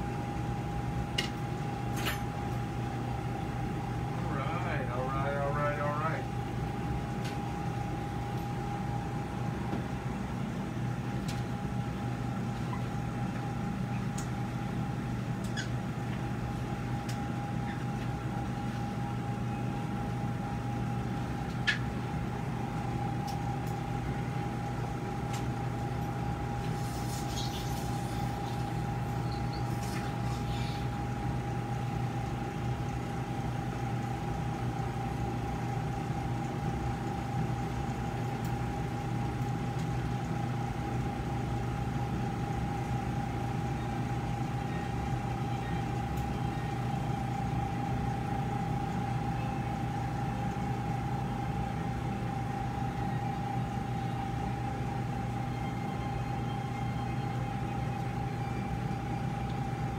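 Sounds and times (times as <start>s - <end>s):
equipment humming: 0.0s - 59.9s.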